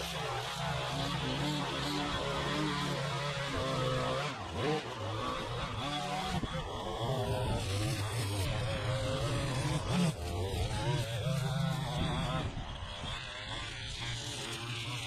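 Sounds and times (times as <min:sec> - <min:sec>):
string trimmer running: 0:00.0 - 0:15.0.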